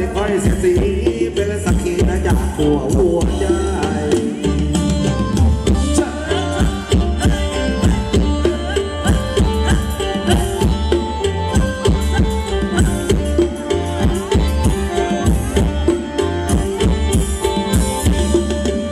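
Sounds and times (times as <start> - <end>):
fast hand-drum rhythm: 0.0 - 18.9
live dance band music: 0.0 - 18.9.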